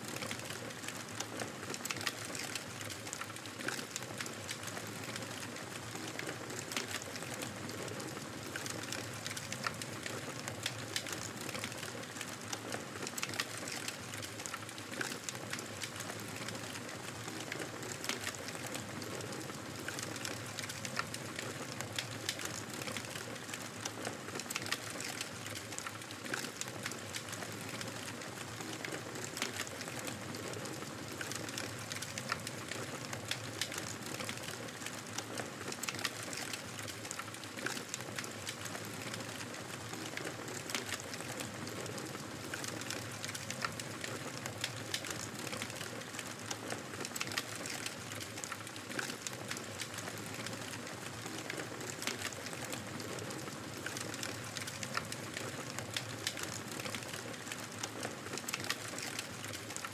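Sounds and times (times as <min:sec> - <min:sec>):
wood fire crackling: 0:00.1 - 0:59.9.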